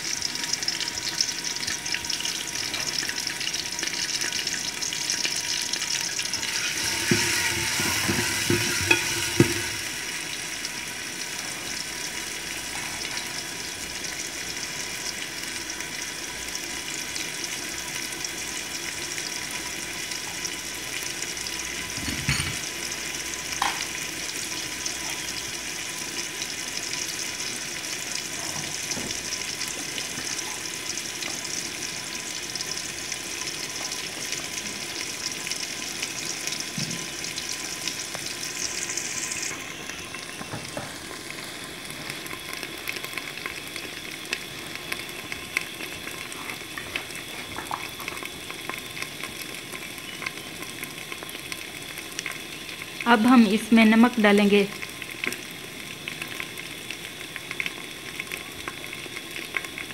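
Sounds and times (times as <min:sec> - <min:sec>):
frying crackles: 0:00.0 - 0:59.9
paste sizzling in hot fat: 0:00.0 - 0:59.9.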